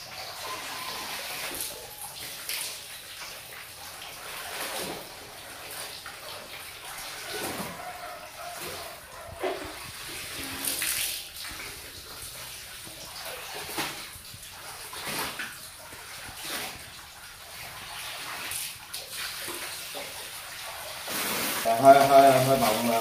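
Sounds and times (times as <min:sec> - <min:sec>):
laundry swishing in water: 0:00.0 - 0:23.0
water splashing and dripping: 0:00.0 - 0:23.0.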